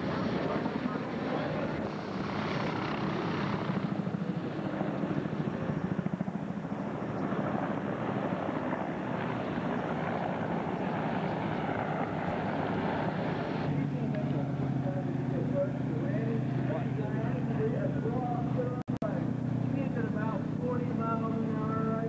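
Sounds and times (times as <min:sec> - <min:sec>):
helicopter rotor beating: 0:00.0 - 0:22.0.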